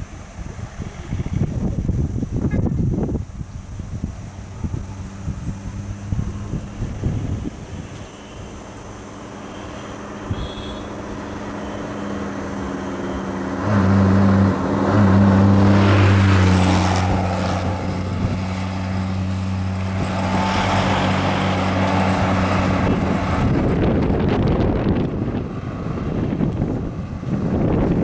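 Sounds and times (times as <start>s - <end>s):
rushing road noise: 0.0s - 28.0s
heavy engine droning: 3.5s - 28.0s.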